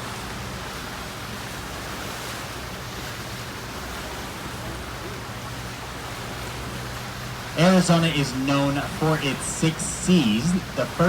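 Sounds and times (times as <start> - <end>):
boat diesel engines humming: 0.0 - 11.0
wind and water rushing: 0.0 - 11.0.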